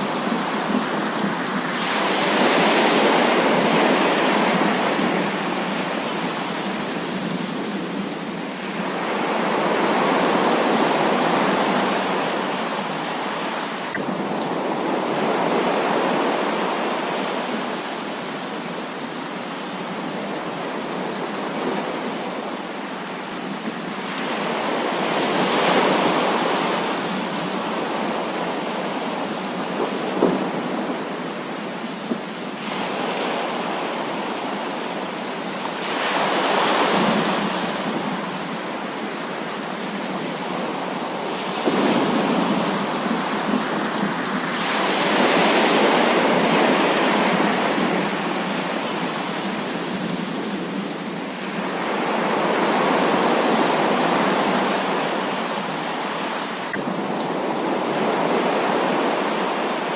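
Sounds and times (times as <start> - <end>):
sharp close raindrops: 0.0 - 59.9.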